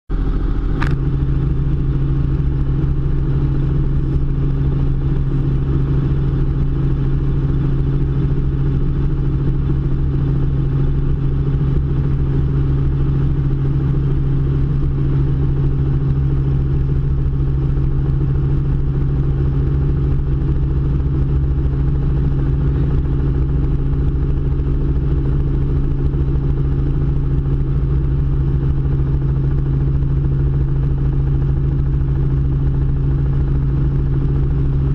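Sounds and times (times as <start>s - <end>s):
helicopter engine and rotor drone: 0.1s - 34.9s.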